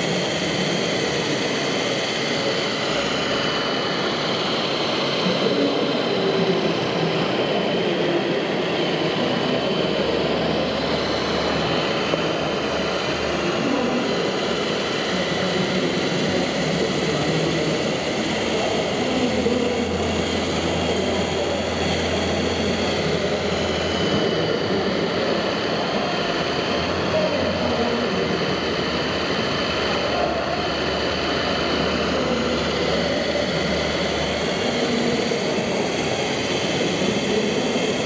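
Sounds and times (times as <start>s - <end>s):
low engine-like hum: 0.0s - 38.0s.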